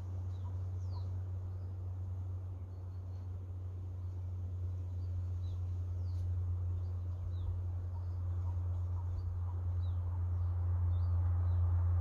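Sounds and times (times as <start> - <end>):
small bird calling: 0.0 - 11.6
low rumble: 0.0 - 12.0
soft outdoor hiss: 0.0 - 12.0.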